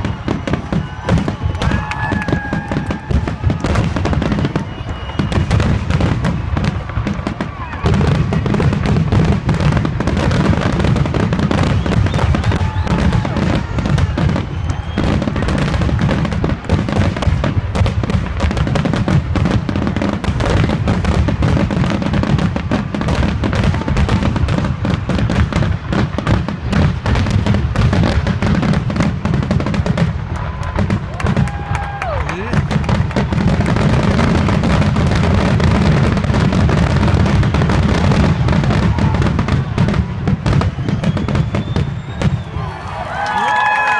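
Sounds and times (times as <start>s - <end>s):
fireworks booming and crackling: 0.0s - 43.9s.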